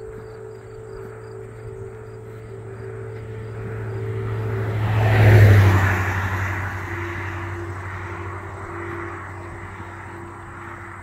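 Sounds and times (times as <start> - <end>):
car passing by: 0.0 - 11.0
steady low hum: 0.0 - 11.0.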